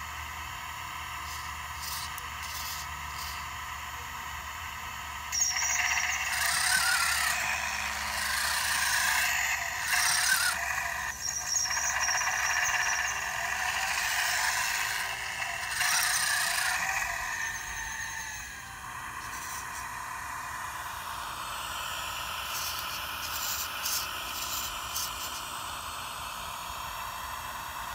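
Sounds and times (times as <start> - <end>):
simulated engine through small speaker: 0.0 - 27.9.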